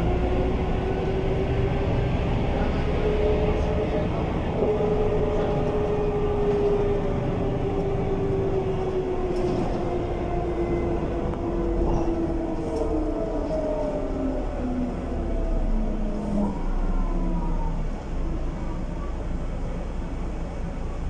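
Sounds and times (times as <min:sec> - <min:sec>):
bus drivetrain rumble: 0:00.0 - 0:21.0.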